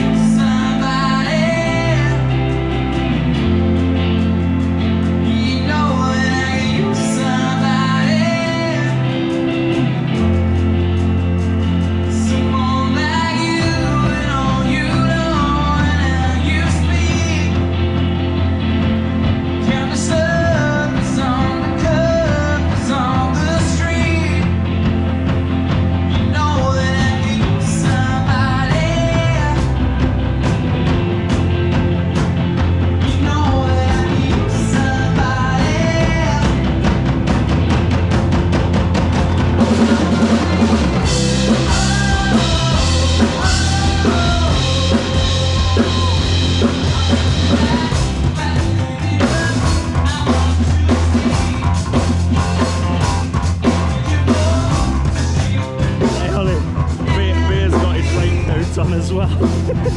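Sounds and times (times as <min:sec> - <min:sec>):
person singing: 0:00.0 - 0:10.6, 0:11.2 - 0:18.0, 0:19.4 - 0:24.8, 0:26.1 - 0:30.0, 0:33.0 - 0:37.2, 0:39.6 - 0:53.0, 0:53.7 - 0:59.9
live rock band: 0:00.0 - 0:59.9.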